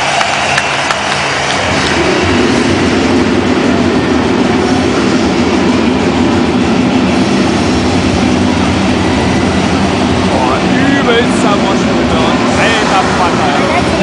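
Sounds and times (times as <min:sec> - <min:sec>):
moving vehicle rumbling: 0:00.0 - 0:14.0.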